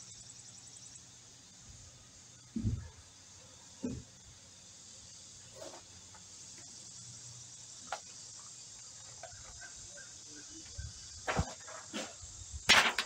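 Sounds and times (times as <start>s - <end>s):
faint chirps: 0.0s - 12.6s
crickets chirring: 0.0s - 13.0s.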